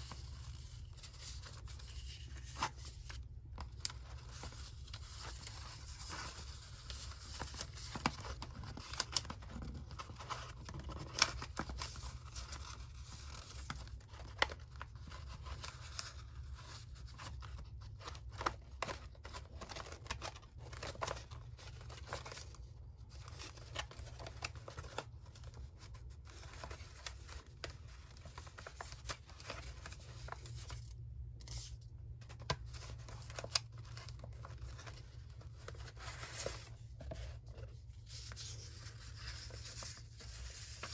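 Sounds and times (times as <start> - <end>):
paper crinkling: 0.0 - 40.9.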